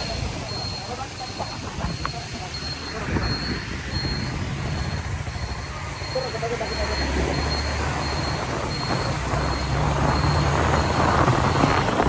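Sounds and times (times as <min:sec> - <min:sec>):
wind rush on microphone: 0:00.0 - 0:06.2, 0:07.0 - 0:12.0
motorcycle engine drone: 0:00.0 - 0:12.0.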